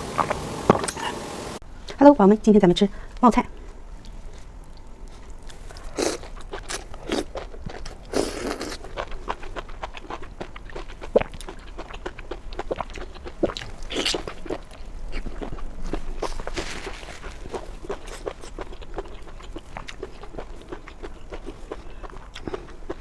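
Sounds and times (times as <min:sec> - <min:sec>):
crunchy chewing: 0:03.6 - 0:23.0.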